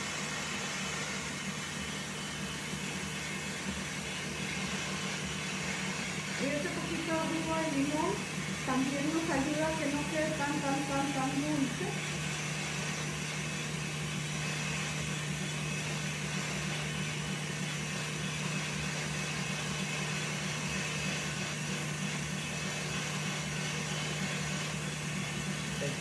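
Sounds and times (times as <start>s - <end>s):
stand mixer motor hum: 0.0s - 26.0s.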